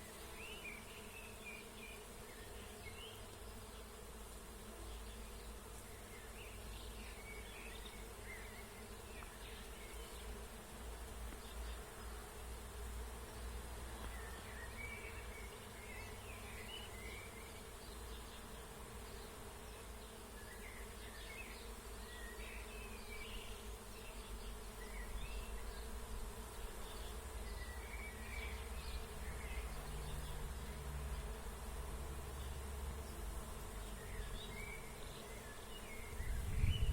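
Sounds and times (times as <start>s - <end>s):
songbirds singing: 0.0s - 4.2s, 4.8s - 10.6s, 11.2s - 31.6s, 32.2s - 36.9s
bees buzzing: 0.0s - 36.9s.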